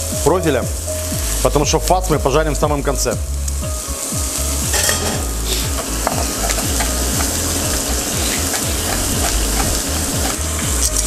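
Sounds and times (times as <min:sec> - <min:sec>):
low repeating thumping beat: 0:00.0 - 0:11.0
meat sizzling in a hot pan: 0:00.0 - 0:11.0.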